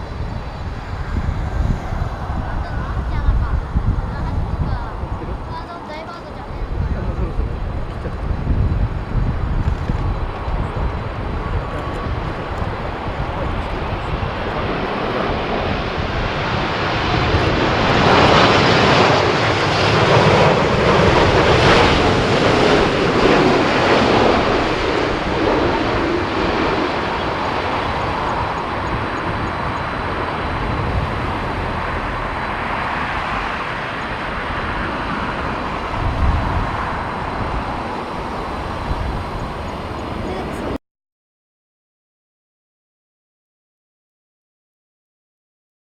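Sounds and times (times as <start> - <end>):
jet engines passing close: 0.0 - 40.8
wind buffeting microphone: 0.0 - 40.8.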